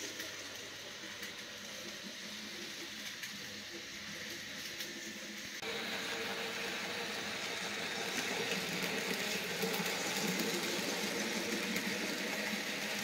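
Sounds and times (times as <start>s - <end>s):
model locomotive motor whirring: 0.0s - 13.0s.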